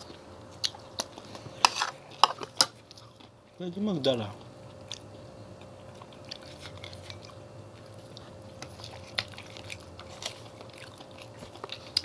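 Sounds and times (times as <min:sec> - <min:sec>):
people chewing crunchy food: 0:00.0 - 0:03.6, 0:04.2 - 0:12.0
faint steady hum: 0:00.0 - 0:12.0.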